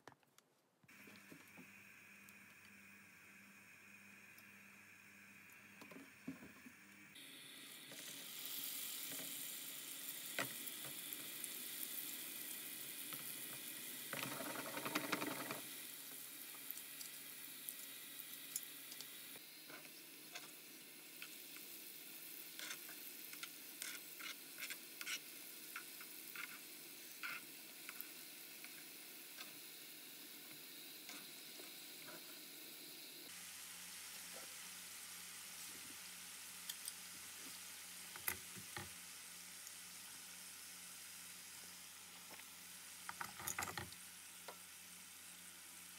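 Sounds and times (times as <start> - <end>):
oil sizzling in a pan: 0.9 - 45.9.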